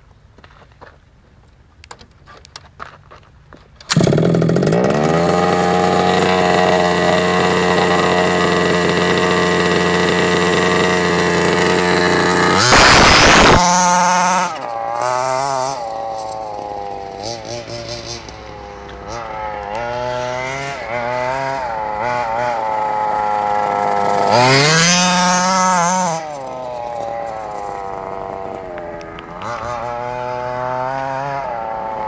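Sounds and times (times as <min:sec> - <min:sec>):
small engine buzzing: 0:03.9 - 0:32.0.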